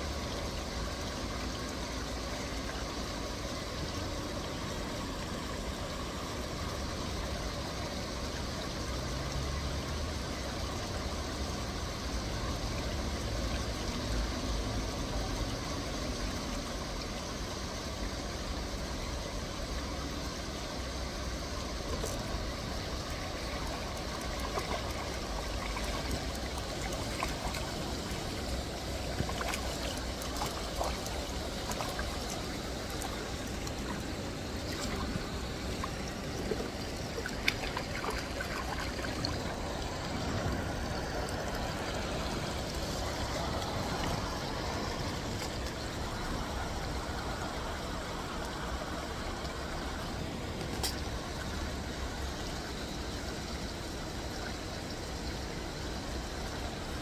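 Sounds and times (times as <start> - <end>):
flowing river water: 0.0 - 57.0.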